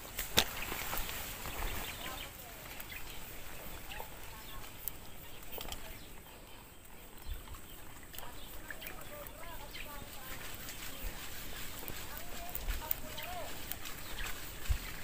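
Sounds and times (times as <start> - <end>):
fishing line clicks and rustles: 0.0 - 15.0
faint bird chirps: 1.4 - 15.0.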